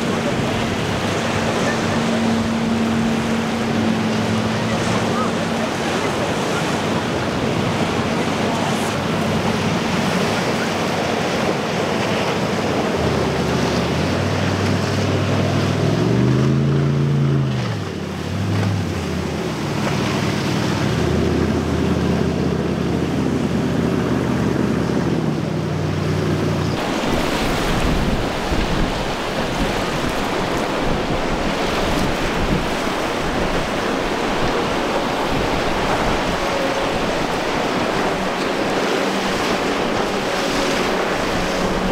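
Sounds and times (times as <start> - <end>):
powerboat engine revving: 0.0 - 41.9
surf: 0.0 - 41.9
wind: 0.0 - 41.9.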